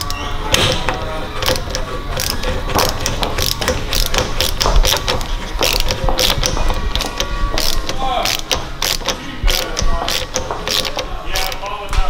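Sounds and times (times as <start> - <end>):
socket ratchet clicking: 0.0 - 11.7.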